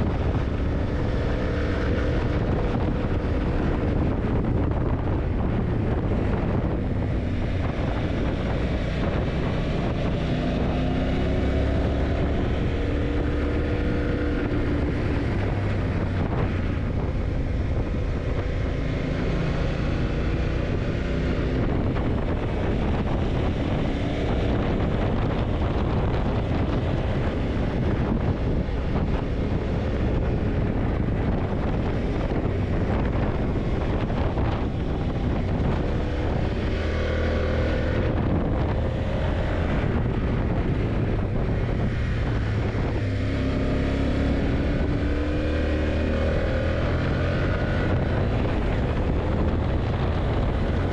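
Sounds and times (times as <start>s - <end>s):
motorcycle engine revving: 0.0s - 50.9s
wind rushing on microphone: 0.0s - 50.9s.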